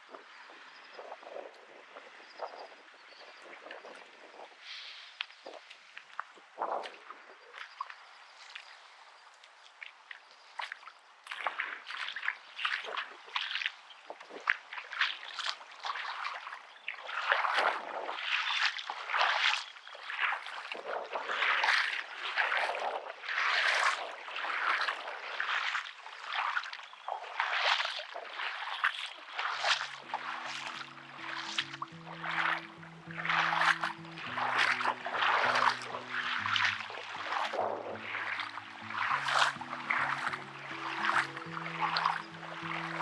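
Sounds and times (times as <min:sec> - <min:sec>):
seawater sloshing at shoreline: 0:00.0 - 0:43.0.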